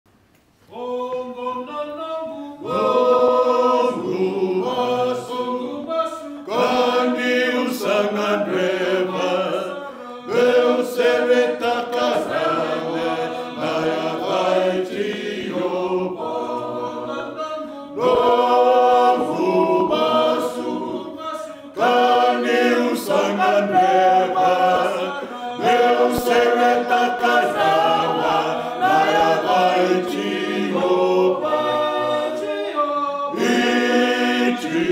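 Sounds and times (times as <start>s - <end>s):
men's choir singing a hymn: 0.7s - 34.9s.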